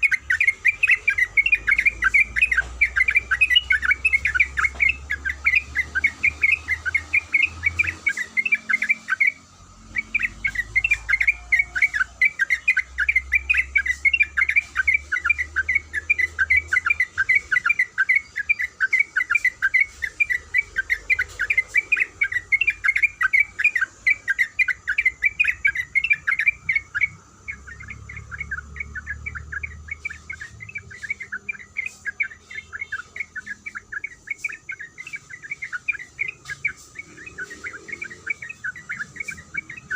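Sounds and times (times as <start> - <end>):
bulbul chattering calls: 0.0 - 39.9.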